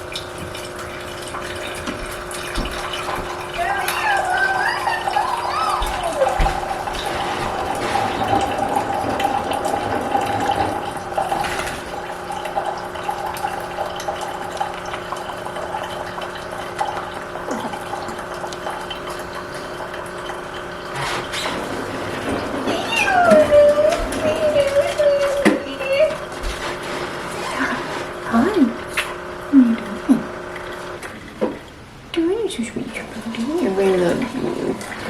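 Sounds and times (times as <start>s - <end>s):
water running: 0.0s - 35.0s.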